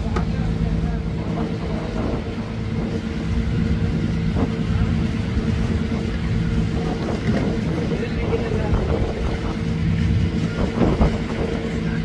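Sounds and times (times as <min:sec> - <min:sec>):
boat diesel engine drone: 0:00.0 - 0:12.0.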